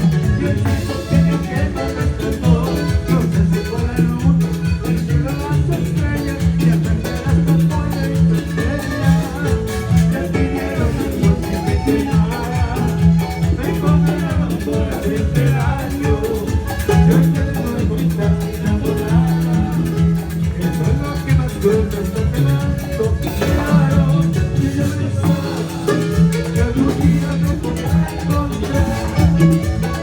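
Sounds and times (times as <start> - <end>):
latin band music: 0.0 - 30.0.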